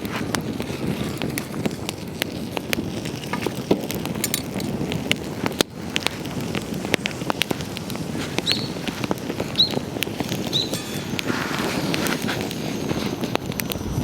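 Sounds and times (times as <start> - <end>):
campfire crackling and popping: 0.0 - 14.0
low rush of flames: 0.0 - 14.0.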